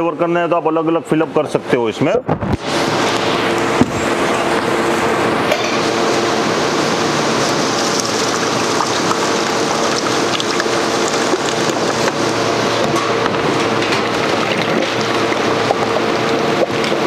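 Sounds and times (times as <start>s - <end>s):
low machine hum: 0.0s - 17.0s
liquid pouring into metal tank: 3.1s - 17.0s.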